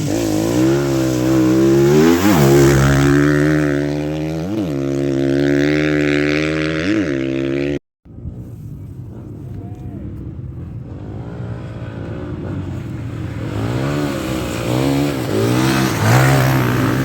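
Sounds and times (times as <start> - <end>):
engine rev flares: 0.0 - 17.0
motorcycle engine running hard: 0.0 - 17.0.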